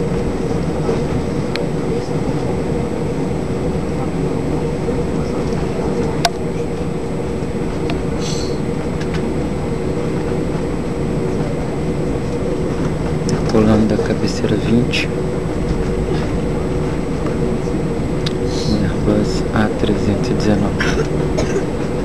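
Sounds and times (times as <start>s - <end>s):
airplane taxiing rumble: 0.0s - 22.0s
jet engines humming: 0.0s - 22.0s.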